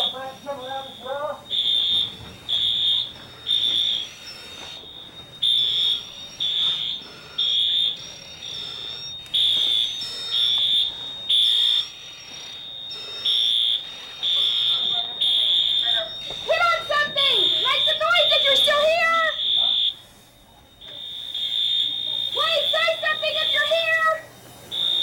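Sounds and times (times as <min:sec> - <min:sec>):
faint steady tone: 0:00.0 - 0:25.0
fire alarm beeping: 0:00.0 - 0:25.0.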